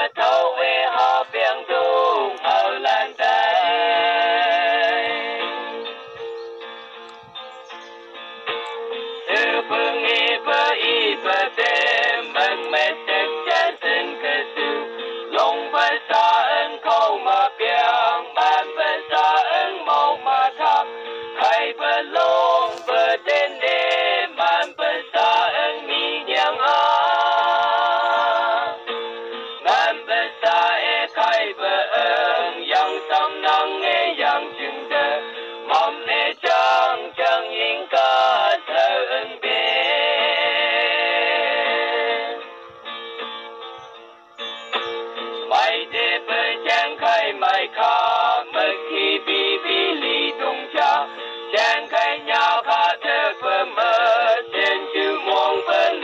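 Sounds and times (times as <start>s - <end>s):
man singing with instruments: 0.0s - 5.8s, 9.2s - 28.9s, 29.6s - 42.4s, 45.4s - 56.0s.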